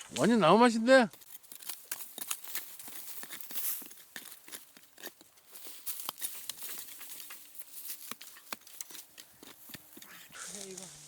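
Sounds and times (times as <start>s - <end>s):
small clicks and crackles: 1.1s - 11.0s.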